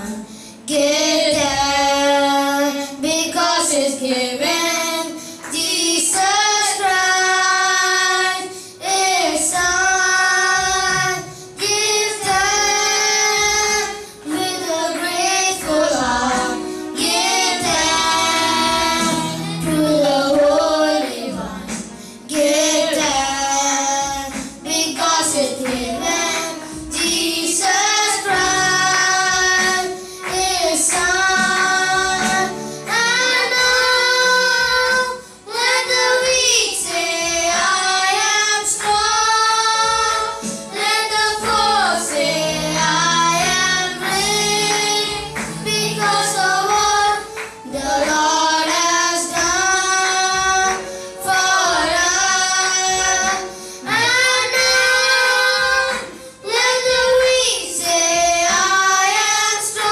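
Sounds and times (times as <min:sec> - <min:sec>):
boys singing into microphones: 0:00.0 - 0:59.9.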